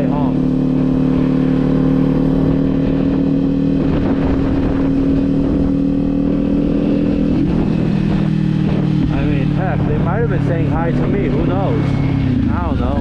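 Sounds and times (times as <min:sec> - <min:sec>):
motorcycle engine cruising: 0:00.0 - 0:13.0
wind buffeting microphone: 0:01.0 - 0:13.0.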